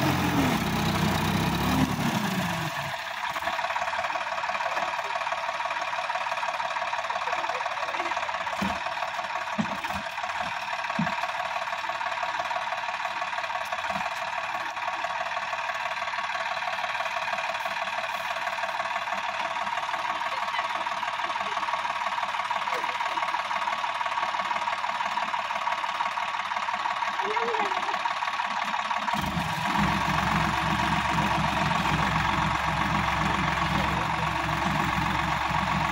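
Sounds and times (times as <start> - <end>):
tractor diesel engine clattering: 0.0 - 35.9.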